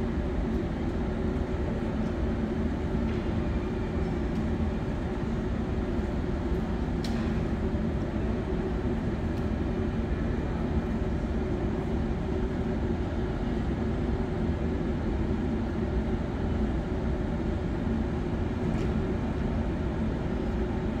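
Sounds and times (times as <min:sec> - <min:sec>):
railway station ambience rumble: 0:00.0 - 0:21.0.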